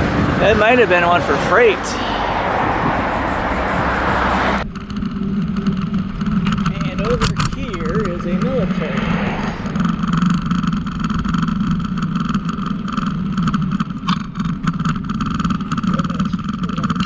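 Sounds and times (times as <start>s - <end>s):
bicycle riding rumble: 0.0s - 17.0s.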